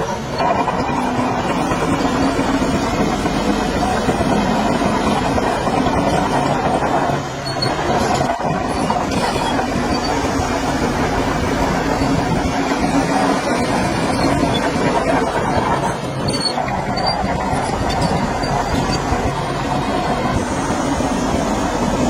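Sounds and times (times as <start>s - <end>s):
bulldozer diesel engine under load: 0.0s - 22.0s
steel tracks clattering: 0.0s - 22.0s.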